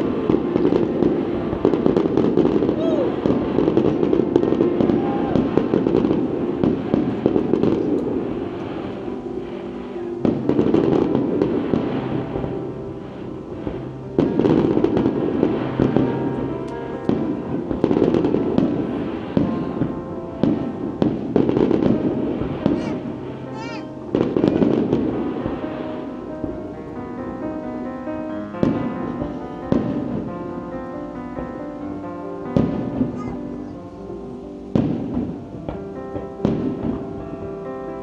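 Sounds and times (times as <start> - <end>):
fireworks bursting and crackling: 0.0 - 38.0.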